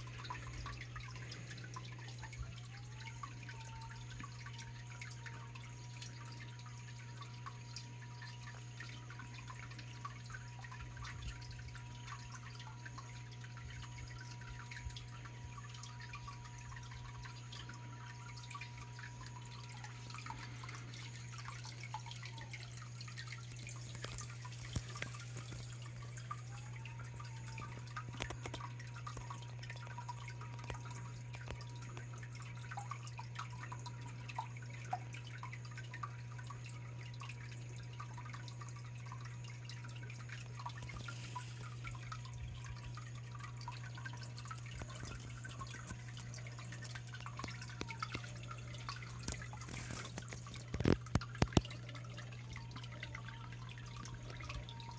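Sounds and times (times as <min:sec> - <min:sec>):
steady low hum: 0:00.0 - 0:54.9
waterfall trickling and dripping: 0:00.0 - 0:54.9.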